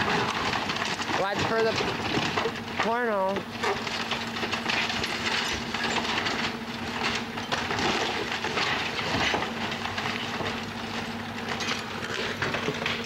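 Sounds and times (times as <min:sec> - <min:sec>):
engine humming: 0:00.0 - 0:13.0
wood debris cracking and clattering: 0:00.0 - 0:13.0.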